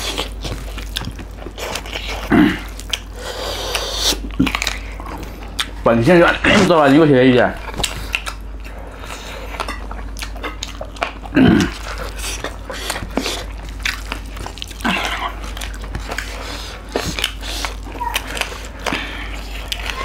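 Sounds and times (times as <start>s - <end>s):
chewing and mouth clicks: 0.0s - 5.8s, 7.6s - 20.0s.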